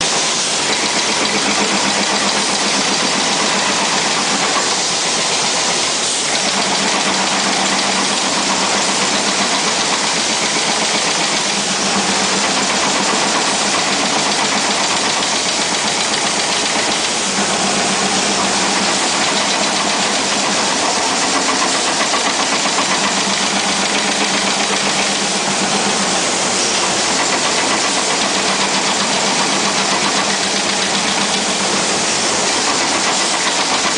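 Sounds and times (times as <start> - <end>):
welding machine running: 0.0 - 33.9.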